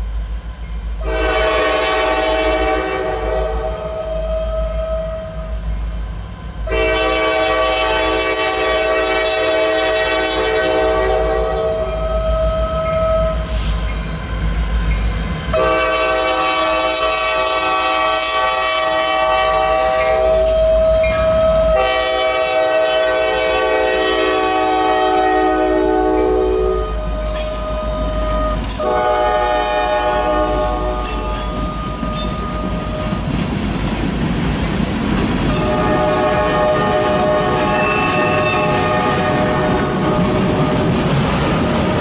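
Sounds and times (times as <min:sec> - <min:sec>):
train rumbling: 0:00.0 - 0:42.0
locomotive air horn blasts: 0:01.0 - 0:05.5, 0:06.7 - 0:13.8, 0:15.5 - 0:33.0, 0:35.6 - 0:40.8.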